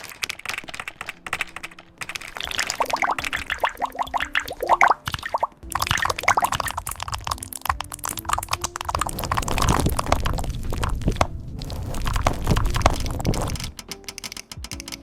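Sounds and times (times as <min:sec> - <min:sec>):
background music: 0:00.0 - 0:15.0
rapid keyboard typing: 0:00.0 - 0:15.0.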